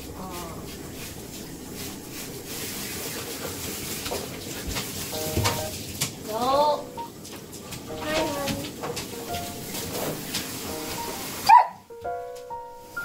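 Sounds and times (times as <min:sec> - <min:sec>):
shower head spraying water: 0:00.0 - 0:11.5.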